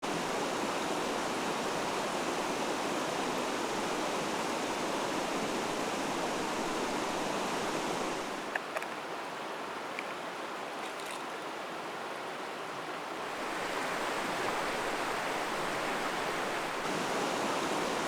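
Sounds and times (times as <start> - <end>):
mountain stream flowing: 0.0 - 18.0.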